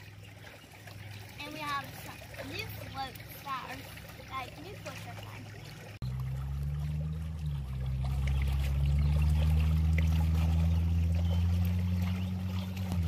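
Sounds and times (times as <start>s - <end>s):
low hum: 0.0s - 13.0s
pool water trickling and lapping: 0.0s - 13.0s.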